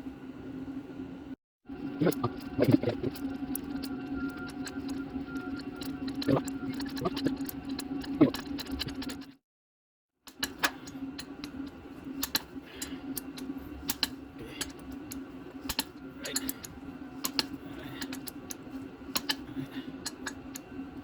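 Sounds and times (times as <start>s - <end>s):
steady low hum: 0.0s - 9.4s, 10.3s - 21.0s.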